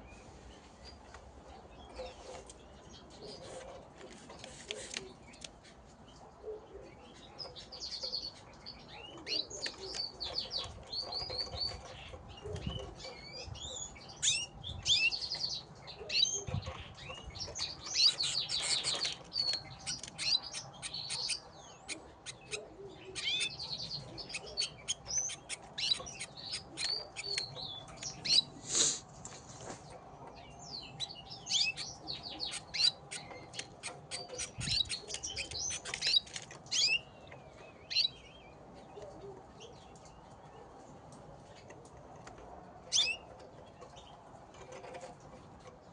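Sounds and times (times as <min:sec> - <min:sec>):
canaries chirping and trilling: 0:00.0 - 0:29.0, 0:29.6 - 0:45.9.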